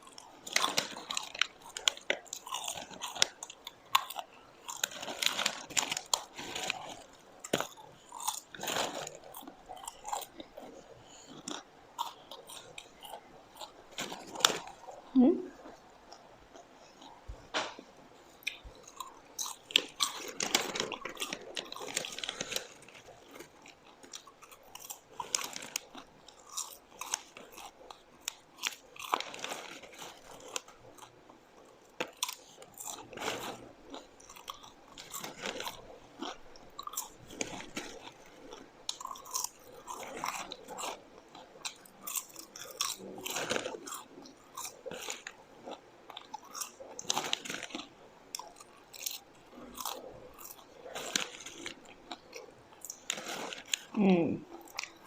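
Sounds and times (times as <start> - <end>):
chewing and crunching popcorn: 0.0 - 55.0.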